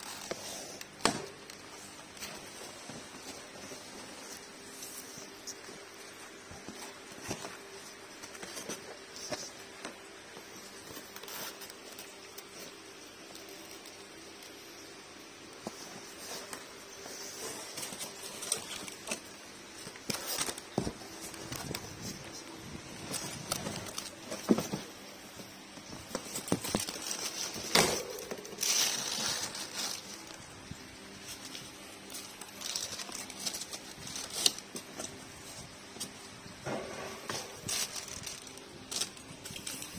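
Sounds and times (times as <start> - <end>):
plastic wrap rustling: 0.0 - 39.9.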